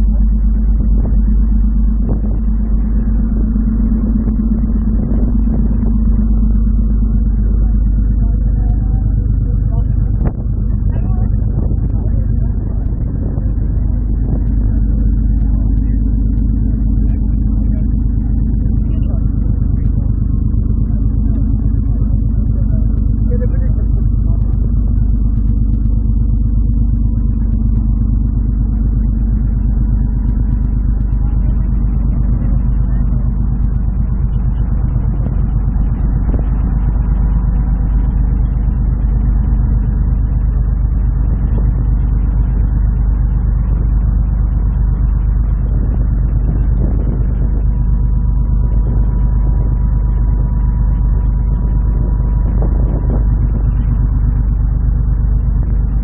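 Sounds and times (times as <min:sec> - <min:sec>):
ferry engines droning: 0:00.0 - 0:56.0.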